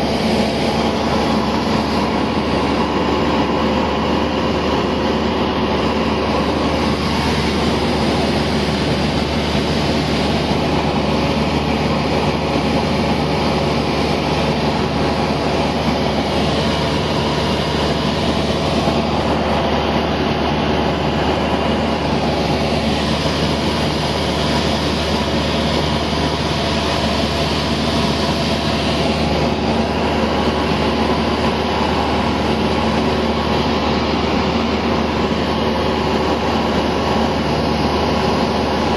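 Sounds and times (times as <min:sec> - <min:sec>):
aircraft engine and propeller drone: 0:00.0 - 0:38.9
airflow noise: 0:00.0 - 0:38.9.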